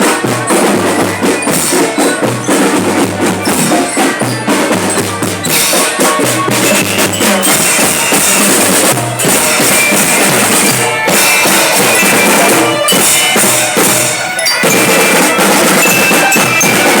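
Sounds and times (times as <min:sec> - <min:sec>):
drum band playing: 0:00.0 - 0:17.0.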